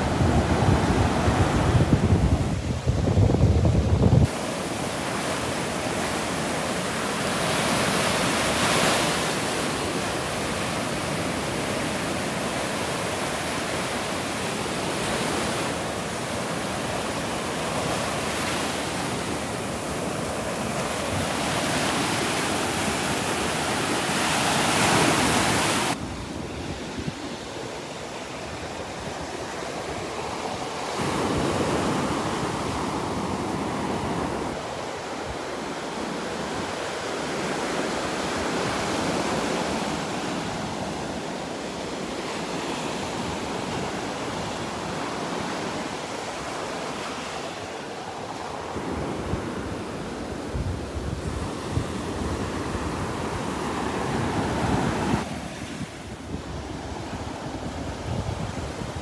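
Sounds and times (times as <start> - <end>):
surf breaking on beach: 3.7 - 59.0.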